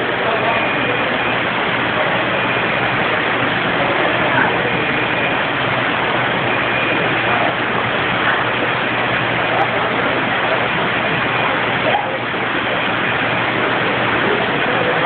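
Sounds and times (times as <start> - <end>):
floodwater rushing down street: 0.0 - 15.0
heavy rain: 0.0 - 15.0.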